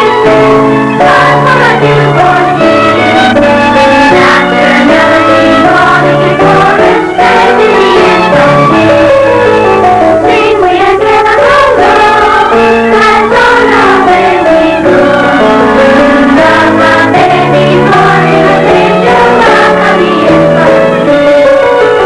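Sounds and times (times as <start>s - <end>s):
children's choir singing a carol: 0.0s - 22.0s
instrumental accompaniment: 0.0s - 22.0s.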